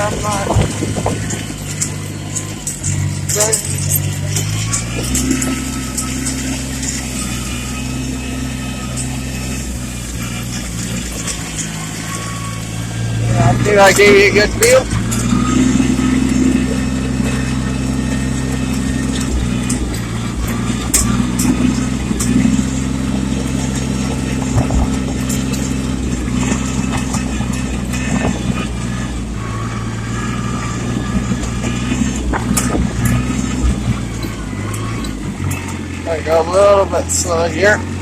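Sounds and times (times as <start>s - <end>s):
sharp clicks and rattles: 0.0s - 38.0s
tractor engine running: 0.0s - 38.0s.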